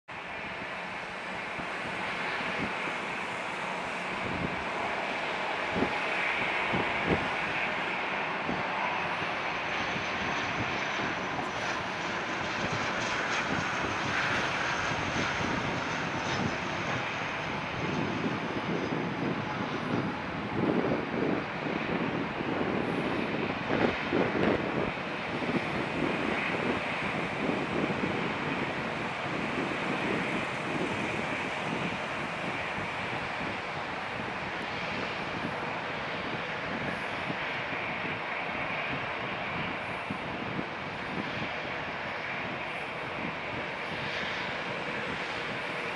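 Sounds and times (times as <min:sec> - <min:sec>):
faint engine whine: 0:00.1 - 0:45.9
turboprop engines droning: 0:00.1 - 0:45.9.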